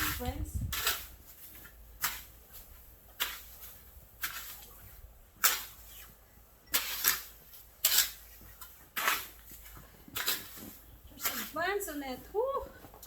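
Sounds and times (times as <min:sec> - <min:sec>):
snow shovel scraping snow: 0:00.0 - 0:12.6.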